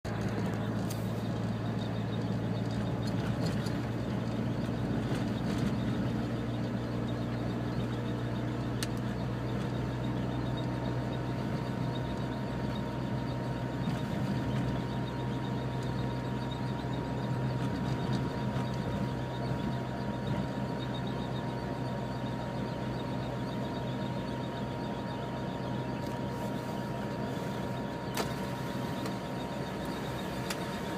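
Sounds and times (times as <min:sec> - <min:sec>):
abnormal car noise: 0:00.0 - 0:30.9
car engine humming: 0:00.0 - 0:30.9.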